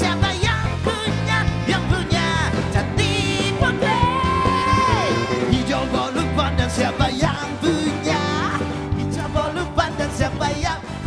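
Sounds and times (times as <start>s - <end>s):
upbeat pop music with singing: 0.0s - 11.0s.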